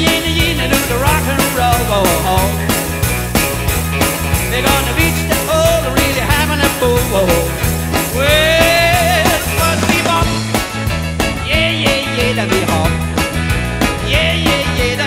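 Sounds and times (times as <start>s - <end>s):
man singing: 0.0s - 2.8s, 4.4s - 13.2s, 13.8s - 15.0s
rock and roll band playing: 0.0s - 15.0s.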